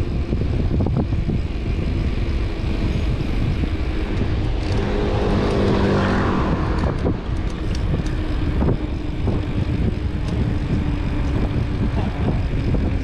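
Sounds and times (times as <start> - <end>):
faint engine hum: 0.0 - 13.0
road traffic rumble: 0.0 - 13.0
wind on microphone: 0.0 - 13.0.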